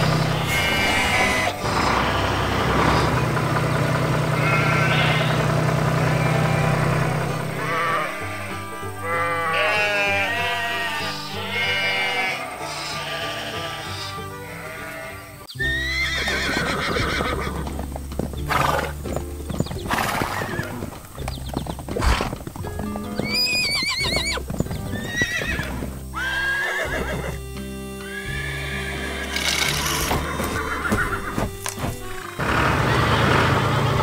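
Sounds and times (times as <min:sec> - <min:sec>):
horses whinnying: 0:00.0 - 0:33.8
background music: 0:00.0 - 0:34.0.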